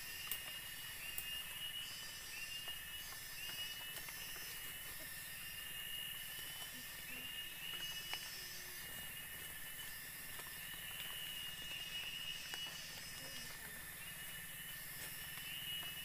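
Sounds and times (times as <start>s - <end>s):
insects buzzing chorus: 0.0s - 16.0s
pulsing insect call: 0.0s - 16.0s.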